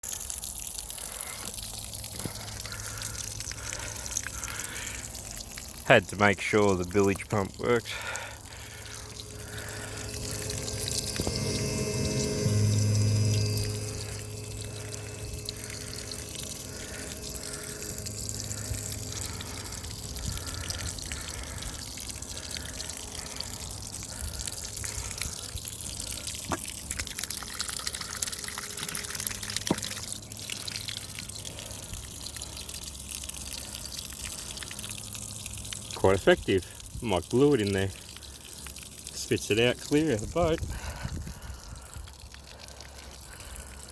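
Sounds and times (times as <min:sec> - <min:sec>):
bilge pump humming: 0:00.0 - 0:43.9
water splashing and trickling: 0:00.0 - 0:43.9.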